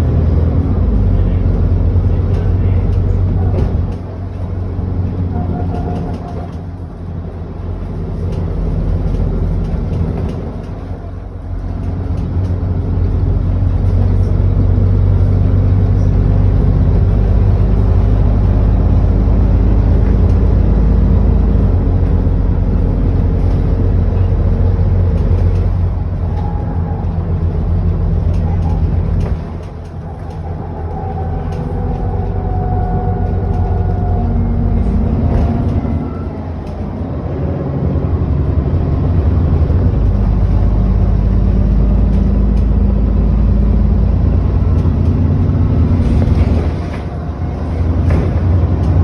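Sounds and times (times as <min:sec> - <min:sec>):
bus engine from inside: 0:00.0 - 0:49.0.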